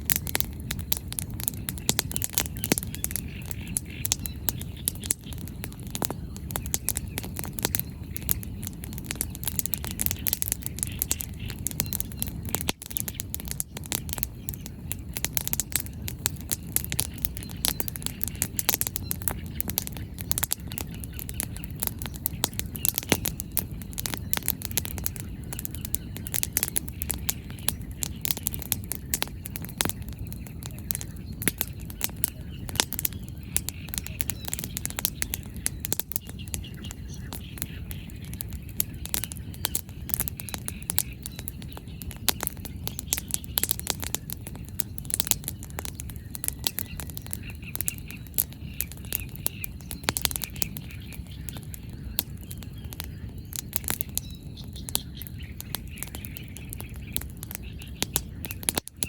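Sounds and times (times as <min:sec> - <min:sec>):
bonfire crackling: 0:00.0 - 0:59.0
firewood popping and snapping: 0:00.0 - 0:59.0.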